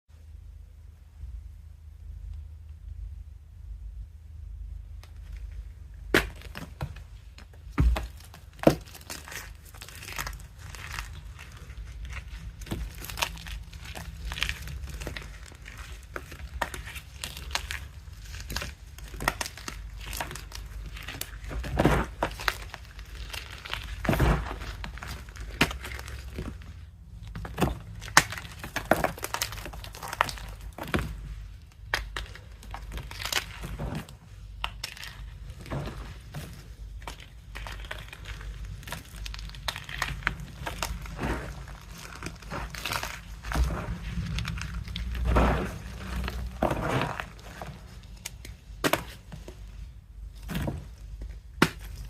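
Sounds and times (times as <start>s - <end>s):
chalk blocks crushed by hand: 6.0s - 49.7s, 50.4s - 52.0s.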